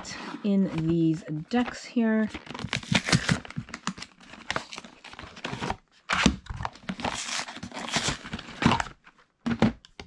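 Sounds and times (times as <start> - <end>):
cardboard and paper rustling: 0.0 - 9.8.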